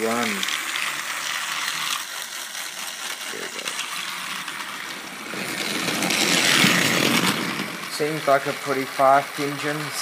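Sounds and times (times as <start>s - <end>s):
toy train motor whirring: 0.0s - 10.0s.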